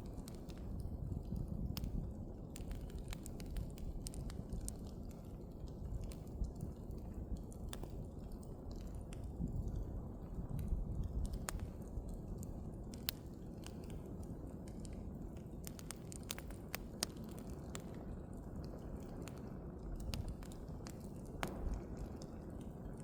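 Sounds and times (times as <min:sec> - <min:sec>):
burning wood crackling and popping: 0:00.0 - 0:23.0
rumble of flames: 0:00.0 - 0:23.0.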